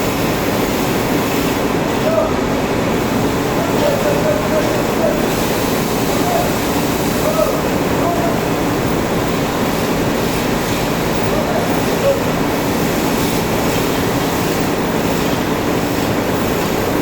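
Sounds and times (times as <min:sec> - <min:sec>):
textile mill machinery running: 0:00.0 - 0:17.0.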